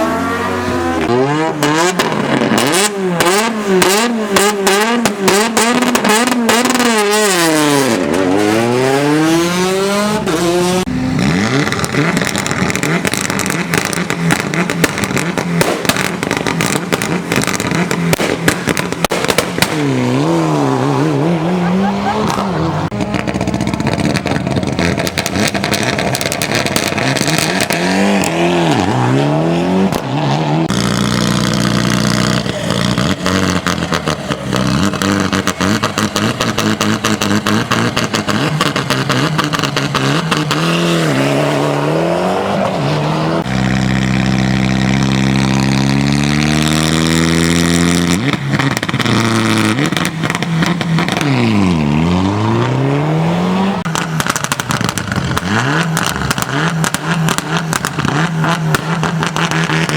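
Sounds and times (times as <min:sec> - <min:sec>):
rally car engines revving hard: 0:00.0 - 0:59.9.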